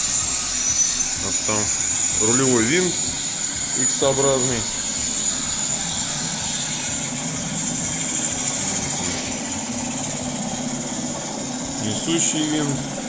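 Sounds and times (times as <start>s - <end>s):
helicopter sound effect with whine: 0.0s - 13.0s.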